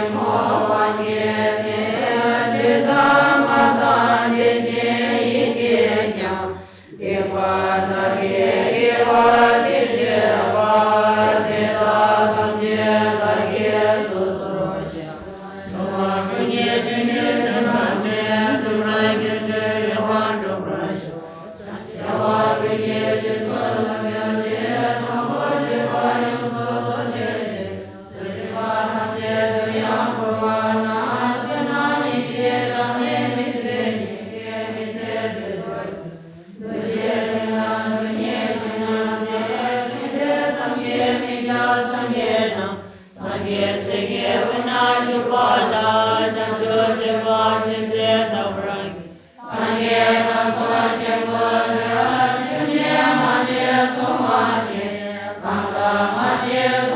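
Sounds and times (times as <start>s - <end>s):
group chanting prayers: 0.0s - 56.9s.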